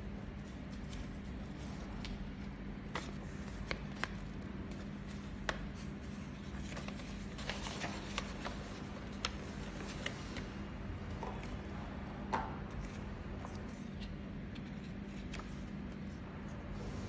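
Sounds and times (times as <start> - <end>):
steady low hum: 0.0 - 17.0
paper rustling: 0.4 - 10.6, 12.7 - 17.0.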